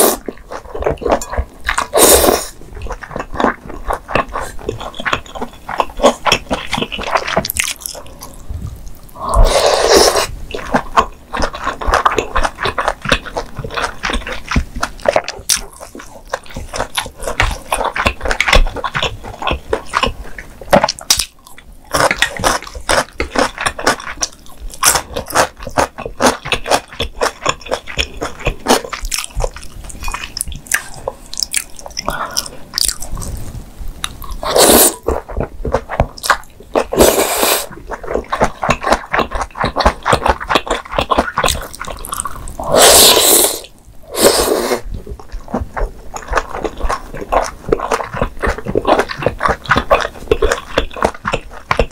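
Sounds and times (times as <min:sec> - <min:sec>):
chewing with wet mouth clicks: 0:00.0 - 0:09.1, 0:10.5 - 0:42.7, 0:44.8 - 0:51.9.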